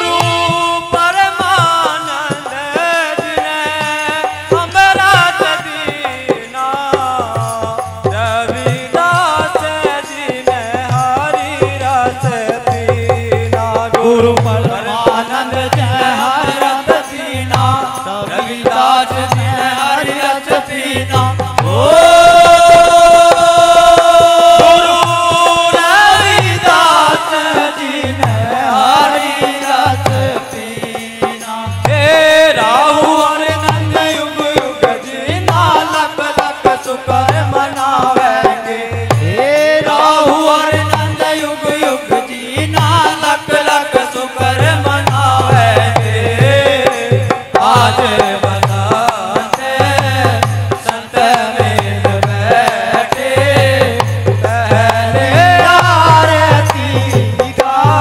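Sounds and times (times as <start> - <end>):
men singing folk song: 0.0 - 58.0
hand drum beat: 3.2 - 58.0.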